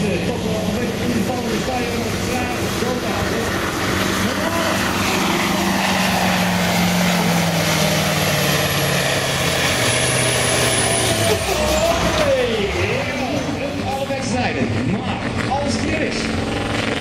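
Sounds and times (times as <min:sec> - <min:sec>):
diesel engine at full throttle: 0:00.0 - 0:17.0.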